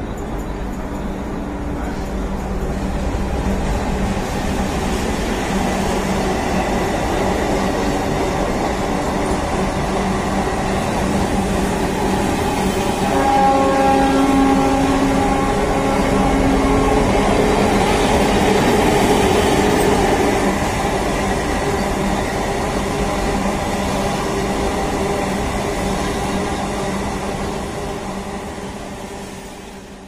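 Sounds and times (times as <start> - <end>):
steady train hum: 0.0 - 30.0
train wheels rumbling on rail: 0.0 - 30.0.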